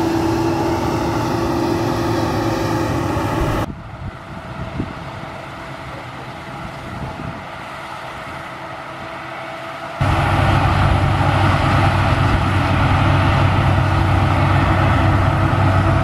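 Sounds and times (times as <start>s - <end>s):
combine harvester running close by: 0.0s - 16.0s
distant combine harvester rumble: 0.0s - 16.0s.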